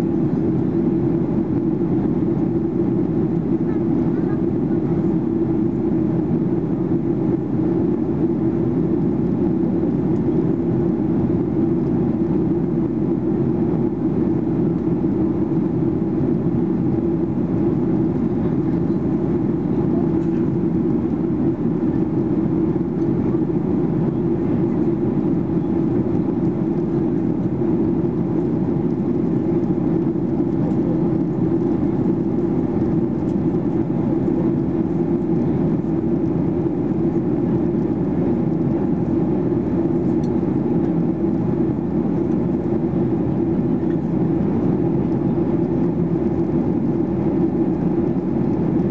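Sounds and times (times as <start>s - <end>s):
jet engines droning: 0.0s - 48.9s.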